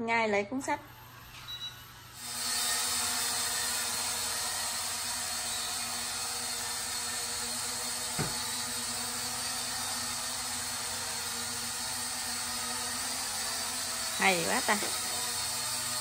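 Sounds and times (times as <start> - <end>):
toy drone propellers whirring: 0.9 - 16.0.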